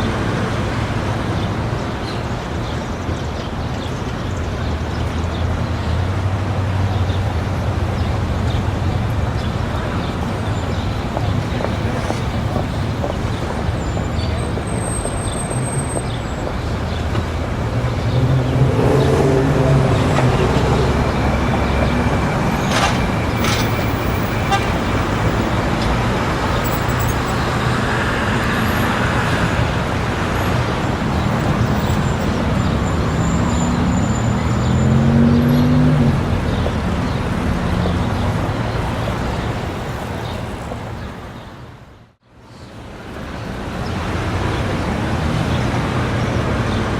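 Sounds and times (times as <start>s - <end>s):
road traffic: 0.0s - 46.9s.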